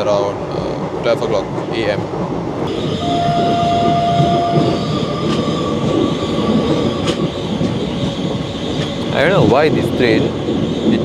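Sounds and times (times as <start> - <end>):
train wheels rumbling on rail: 0.0 - 11.0
sharp rail clicks: 0.9 - 11.0.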